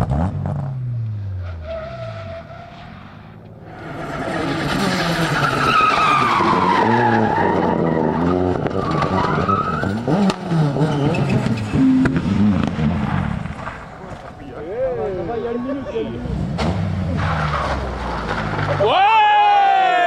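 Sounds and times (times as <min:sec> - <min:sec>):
rally car engine revving: 0:00.0 - 0:14.3, 0:15.8 - 0:19.0
tyre noise: 0:00.0 - 0:20.0.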